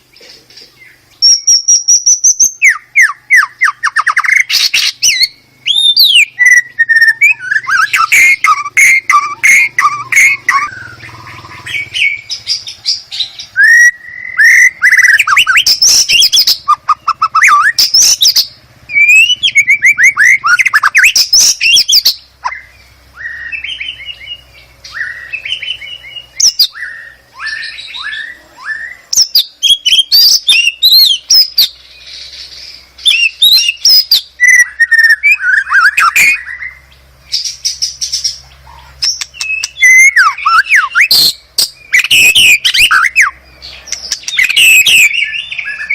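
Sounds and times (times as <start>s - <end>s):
songbird singing trills and whistles: 0.0s - 45.9s.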